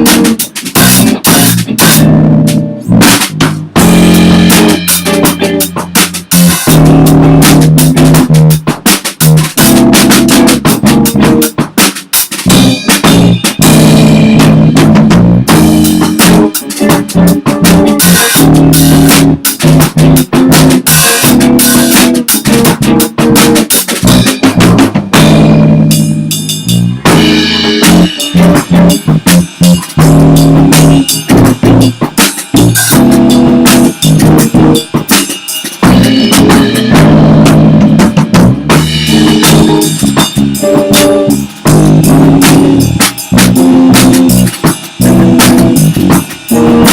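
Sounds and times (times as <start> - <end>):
drum kit beat: 0.0 - 46.9
instrumental rock band: 0.0 - 46.9.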